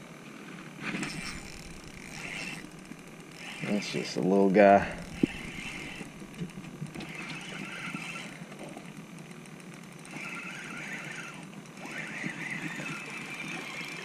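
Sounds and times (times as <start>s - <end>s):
fishing reel cranking: 1.0s - 8.9s, 9.9s - 14.0s
faint reel mechanism ticking: 1.1s - 14.0s.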